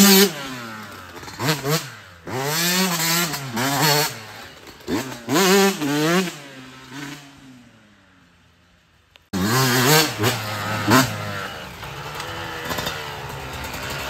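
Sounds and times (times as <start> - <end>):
dirt bike engine revving past: 0.0 - 7.8, 9.4 - 14.0.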